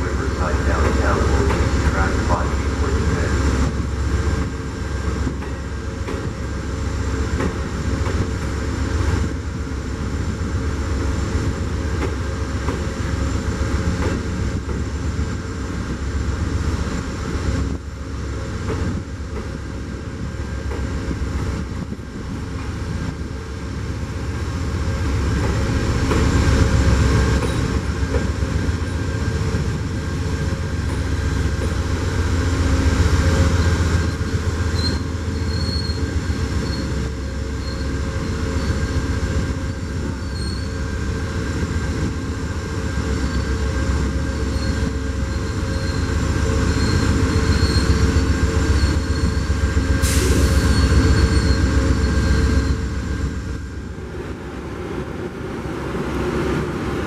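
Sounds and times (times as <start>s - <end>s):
train rumbling by: 0.0s - 57.0s.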